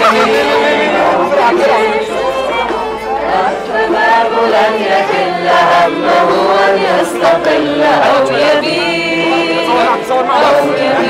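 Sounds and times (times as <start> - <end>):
crowd singing in unison: 0.0 - 11.0.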